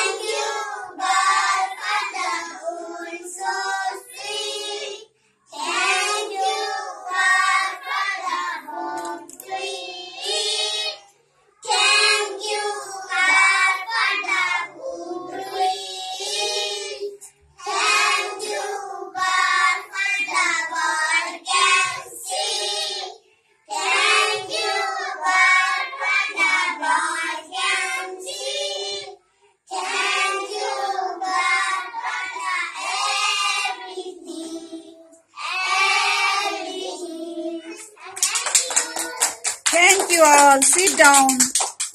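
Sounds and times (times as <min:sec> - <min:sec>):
children singing together: 0:00.0 - 0:39.6.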